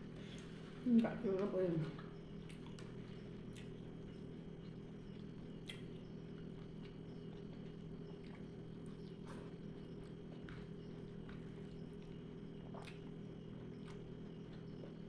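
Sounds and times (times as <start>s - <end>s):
steady low hum: 0.0s - 15.0s
close chewing mouth clicks: 2.4s - 15.0s.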